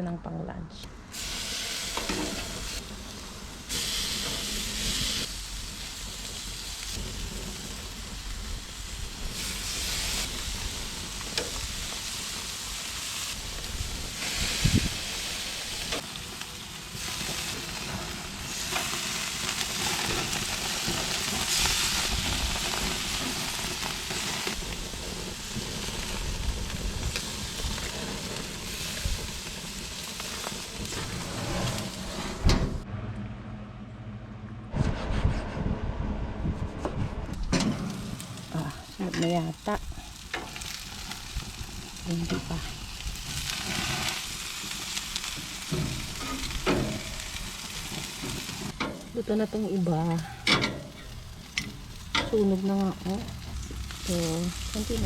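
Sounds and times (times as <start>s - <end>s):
meat sizzling on a grill: 1.1s - 32.8s, 37.7s - 55.0s.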